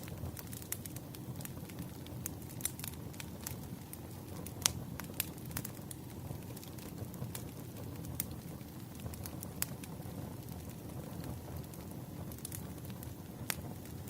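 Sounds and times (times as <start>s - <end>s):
campfire crackling and popping: 0.0s - 14.0s
low rush of flames: 0.0s - 14.0s.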